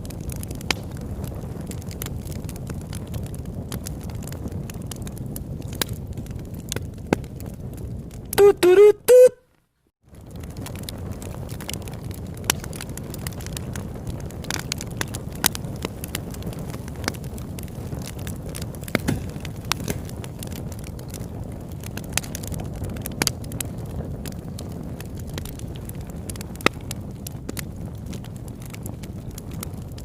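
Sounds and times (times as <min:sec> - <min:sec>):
campfire crackling and popping: 0:00.0 - 0:09.2, 0:09.9 - 0:30.0.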